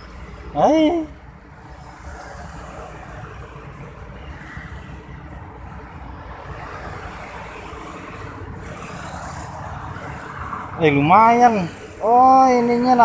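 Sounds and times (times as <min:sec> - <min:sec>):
road traffic rumbling: 0:00.0 - 0:13.0.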